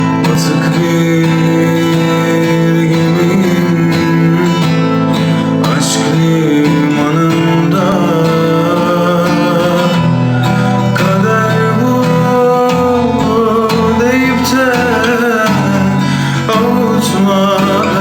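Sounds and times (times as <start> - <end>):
instrumental guitar music: 0.0 - 18.0.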